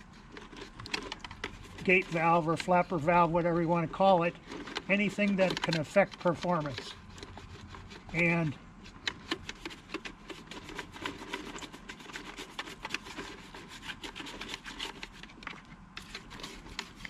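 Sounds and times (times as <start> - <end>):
toothbrush scrubbing plastic: 0.0 - 17.0.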